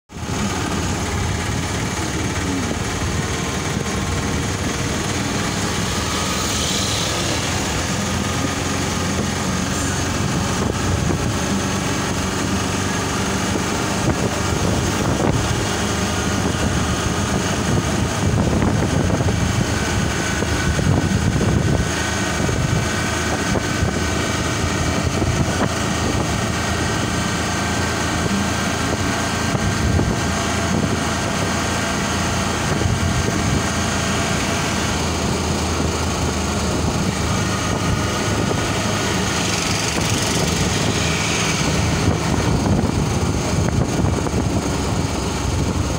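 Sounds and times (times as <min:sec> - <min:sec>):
auto rickshaw engine running: 0:00.1 - 0:45.9
road noise: 0:00.1 - 0:45.9.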